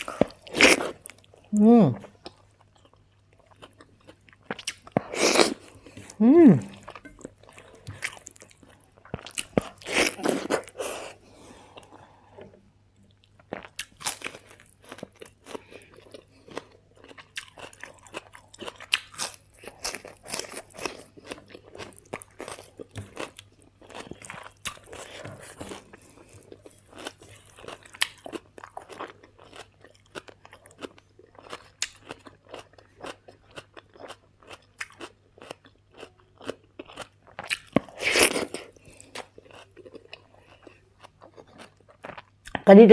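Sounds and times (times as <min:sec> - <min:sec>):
person chewing crunchy food: 0:00.0 - 0:42.6.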